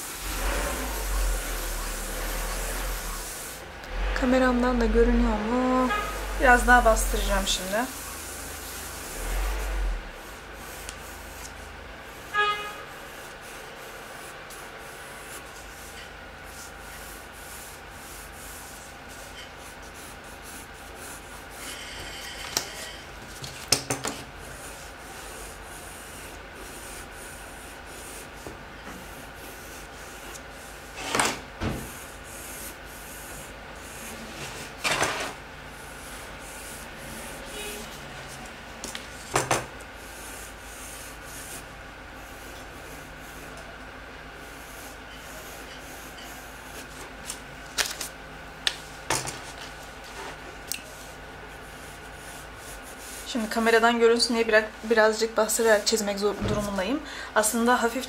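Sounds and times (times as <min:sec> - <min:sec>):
pencil scratching on paper: 0:00.2 - 0:03.6, 0:05.7 - 0:43.7, 0:44.4 - 0:47.0, 0:50.2 - 0:54.5.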